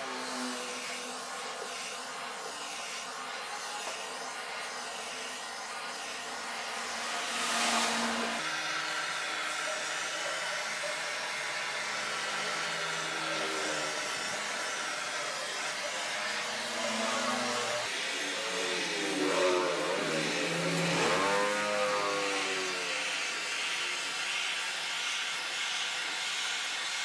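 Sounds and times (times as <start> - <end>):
butane torch hissing: 0.0 - 17.0, 18.9 - 27.0.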